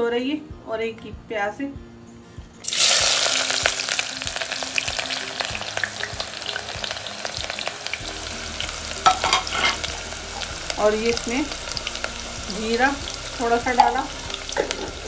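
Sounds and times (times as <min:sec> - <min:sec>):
onions sizzling in hot oil: 0:02.6 - 0:15.0.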